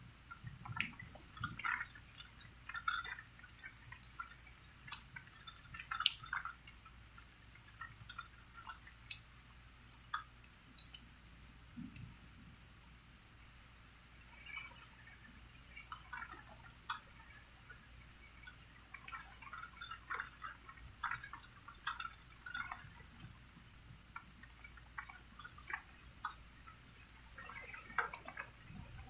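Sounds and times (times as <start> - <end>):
raindrops dripping: 0.0 - 29.0.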